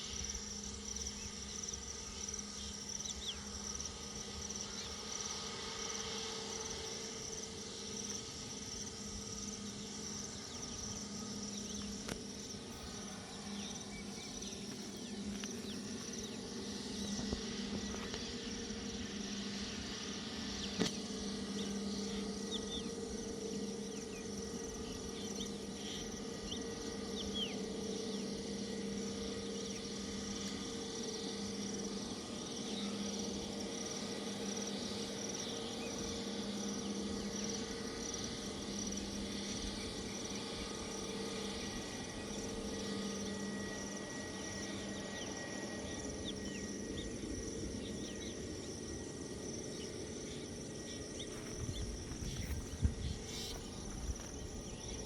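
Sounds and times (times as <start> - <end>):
insects chirping: 0.0 - 55.0
steady low hum: 0.0 - 55.0.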